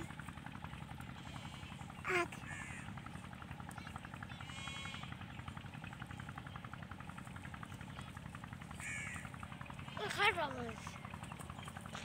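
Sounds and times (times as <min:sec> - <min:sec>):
motor running with rapid pulse: 0:00.0 - 0:12.0.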